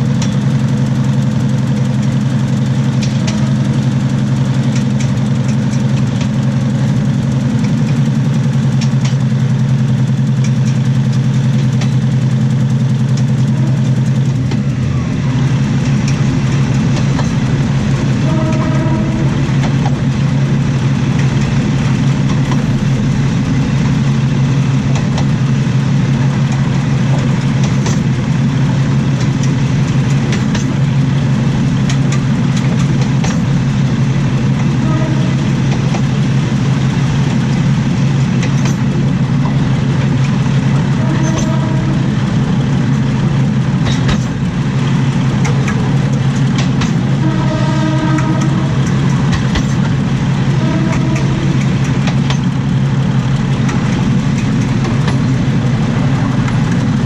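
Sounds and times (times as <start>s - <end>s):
railcar engine drone: 0.0s - 57.0s
wheels clattering over rails: 0.0s - 57.0s.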